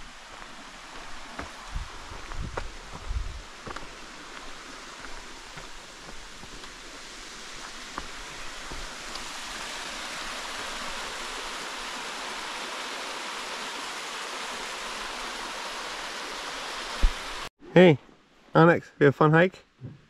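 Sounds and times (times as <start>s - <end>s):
flowing water rushing: 0.0s - 17.5s.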